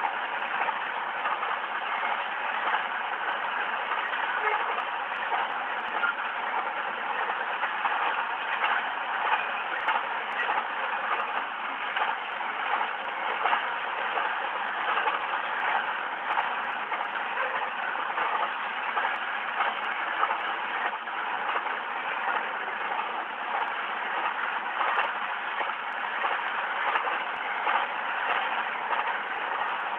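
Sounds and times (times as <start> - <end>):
freight train wheels rumbling: 0.0 - 29.9.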